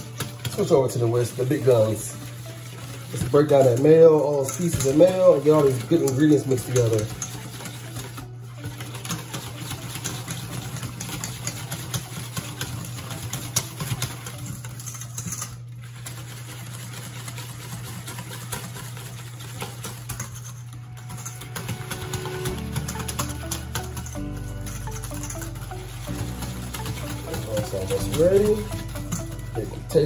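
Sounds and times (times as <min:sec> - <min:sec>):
wire whisk clattering in metal bowl: 0:00.0 - 0:30.0.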